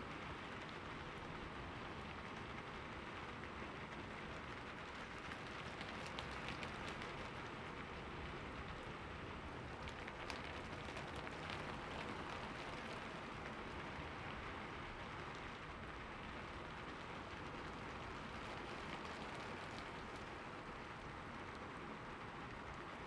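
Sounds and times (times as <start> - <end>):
raindrops ticking on a surface: 0.0 - 23.0
steady rain hiss: 0.0 - 23.0.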